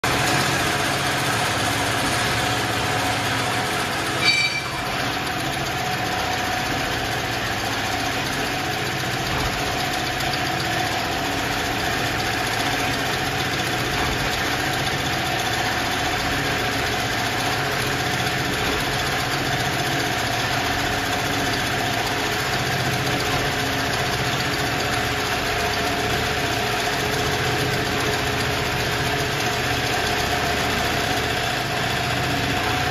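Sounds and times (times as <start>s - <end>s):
sewing machine humming: 0.0s - 32.9s.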